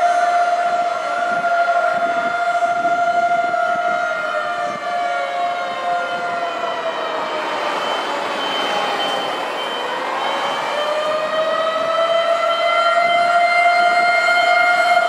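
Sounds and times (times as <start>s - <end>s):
fire engine sirens wailing: 0.0s - 15.0s.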